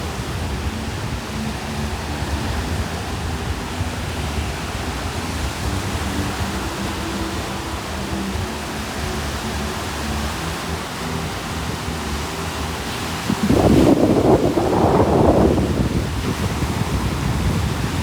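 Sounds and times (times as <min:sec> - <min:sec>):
surf rushing: 0:00.0 - 0:18.0.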